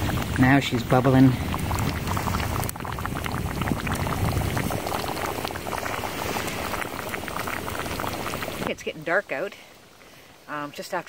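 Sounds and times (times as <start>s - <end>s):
chili bubbling and popping: 0.0s - 11.0s.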